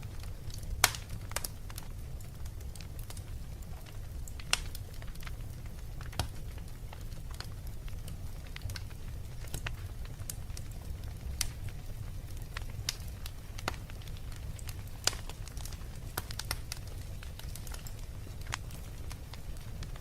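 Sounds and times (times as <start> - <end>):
fire crackling in fireplace: 0.0 - 20.0.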